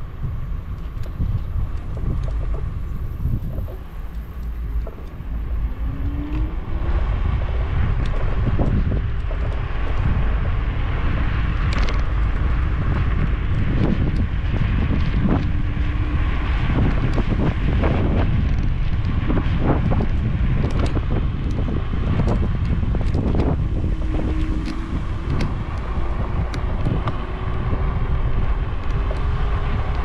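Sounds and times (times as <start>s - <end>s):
scooter riding rumble: 0.0s - 30.0s
wind buffeting microphone: 0.0s - 30.0s.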